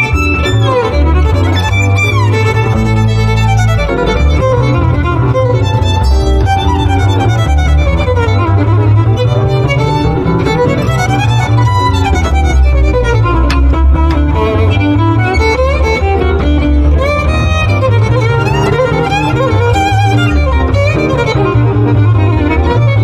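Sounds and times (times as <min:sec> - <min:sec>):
double bass accompaniment: 0:00.0 - 0:23.0
jazz violin melody: 0:00.0 - 0:23.0.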